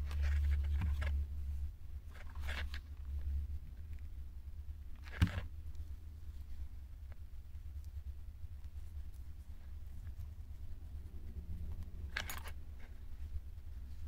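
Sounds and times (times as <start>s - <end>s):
low steady hum: 0.0s - 14.0s
soft rustling of handling: 0.0s - 14.0s.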